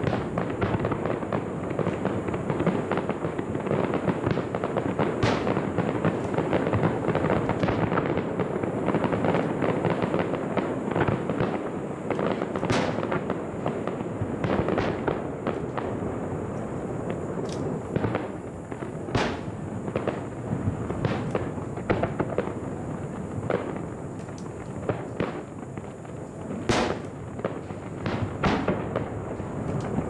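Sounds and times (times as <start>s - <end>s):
loud firework reports: 0.0s - 24.2s
fireworks crackling: 0.0s - 30.0s.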